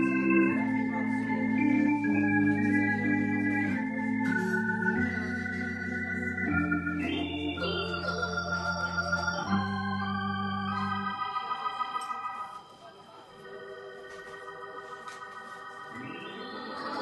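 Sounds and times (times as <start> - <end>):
organ chords through rotating speaker: 0.0 - 17.0.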